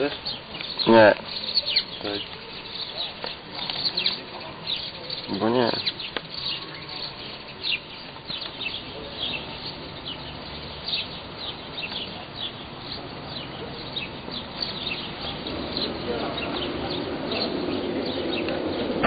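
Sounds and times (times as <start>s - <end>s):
small birds chirping: 0.0s - 19.0s
steady background hum: 0.0s - 19.0s.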